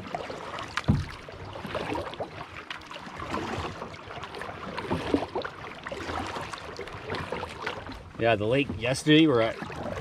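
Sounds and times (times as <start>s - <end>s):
paddle splashing and dripping: 0.0s - 10.0s
water lapping at plastic hull: 0.0s - 10.0s.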